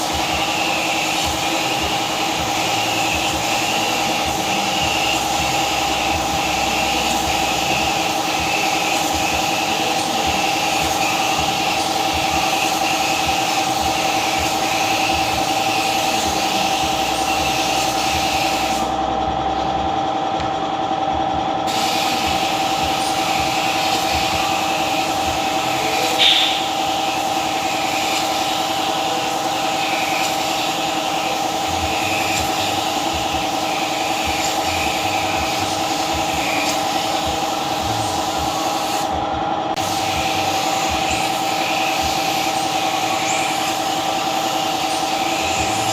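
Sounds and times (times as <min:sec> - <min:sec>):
small motor tool humming: 0:00.0 - 0:19.0, 0:21.7 - 0:45.9.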